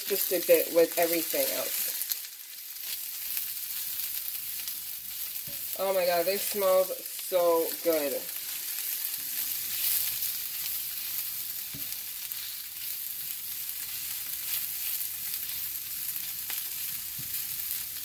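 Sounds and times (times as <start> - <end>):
onions sizzling in a pan: 0.0 - 18.0.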